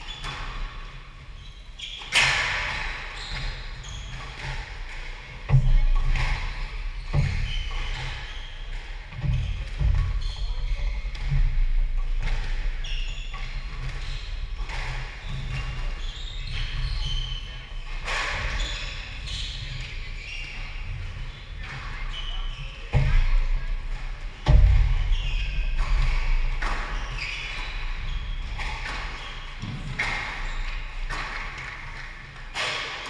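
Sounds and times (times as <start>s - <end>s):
shoes squeaking on wooden floor: 0.0s - 33.0s.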